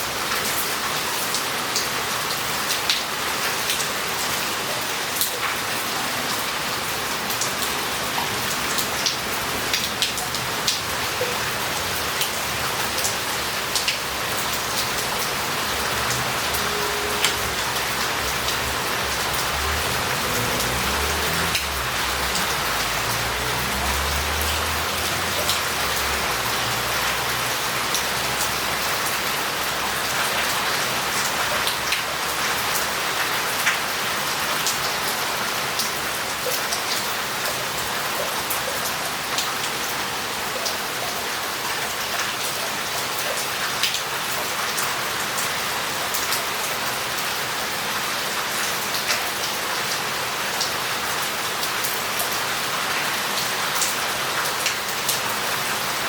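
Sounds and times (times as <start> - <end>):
heavy rain on roof tiles and paving: 0.0 - 56.0.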